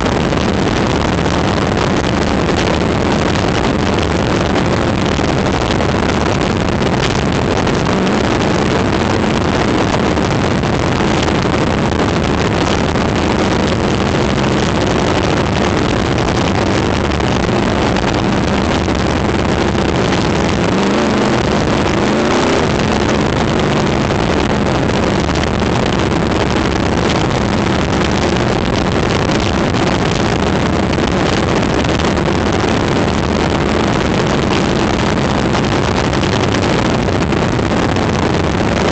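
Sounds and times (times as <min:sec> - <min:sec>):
race car engine running hard: 0:00.0 - 0:38.9
wind noise on microphone: 0:00.0 - 0:38.9.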